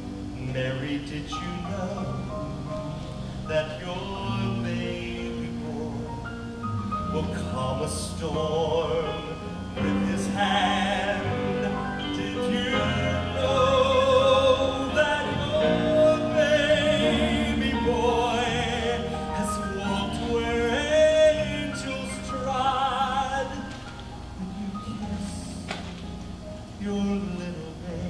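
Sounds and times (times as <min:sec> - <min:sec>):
piano accompaniment: 0:00.0 - 0:28.0
men singing operatically: 0:00.4 - 0:02.4, 0:03.4 - 0:06.3, 0:07.1 - 0:25.8.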